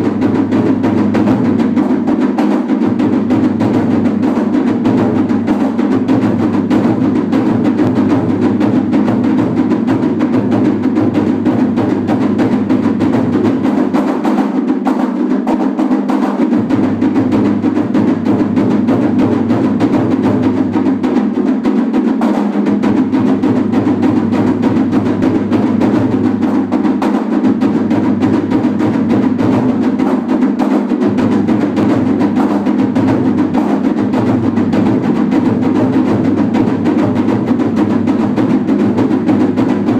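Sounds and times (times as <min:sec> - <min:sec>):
rapid drumming: 0:00.0 - 0:39.9.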